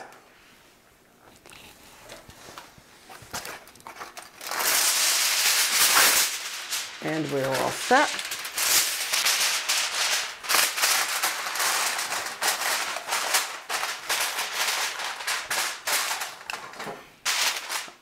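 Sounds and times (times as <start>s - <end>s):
aluminium foil crinkling: 1.2s - 18.0s.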